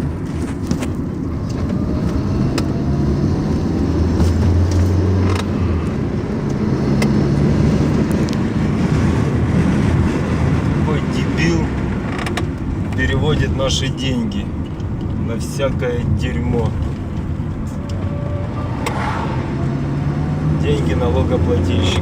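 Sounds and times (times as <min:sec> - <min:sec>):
car engine running at low speed: 0:00.0 - 0:22.0
tyre and road noise: 0:00.0 - 0:22.0.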